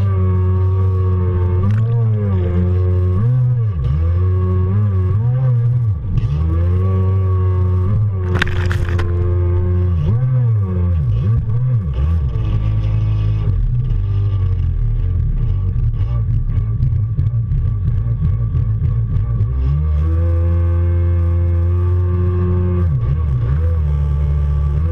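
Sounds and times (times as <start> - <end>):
jet ski engine revving: 0.0 - 24.9.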